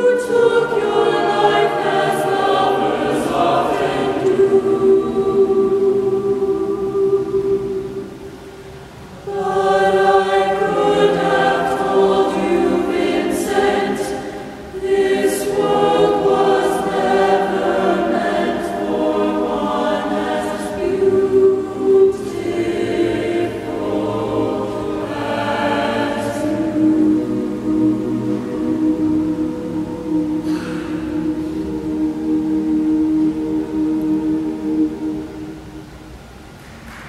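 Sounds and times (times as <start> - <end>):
choir singing a cappella: 0.0 - 36.6.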